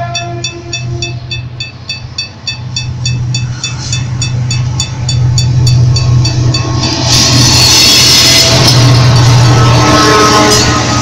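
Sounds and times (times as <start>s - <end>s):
level crossing warning bell: 0.0s - 7.6s, 8.2s - 11.0s
locomotive diesel engine: 0.0s - 11.0s.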